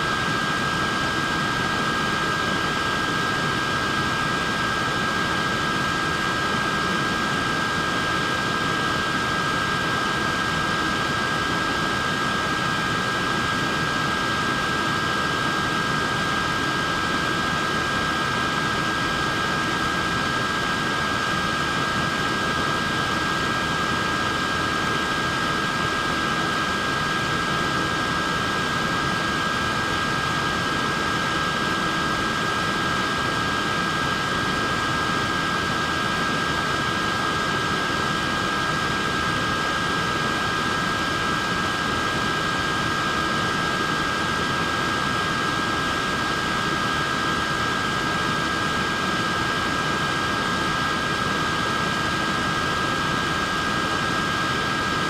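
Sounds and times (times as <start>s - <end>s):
neck fan running: 0.0s - 55.0s.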